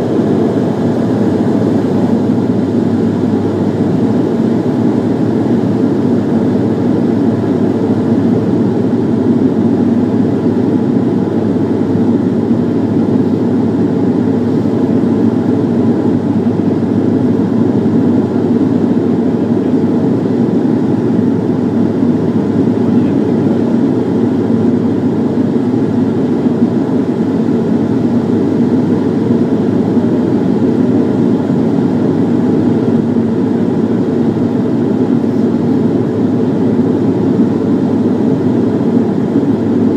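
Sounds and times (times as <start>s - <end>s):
turboprop engine drone in cabin: 0.0s - 39.9s.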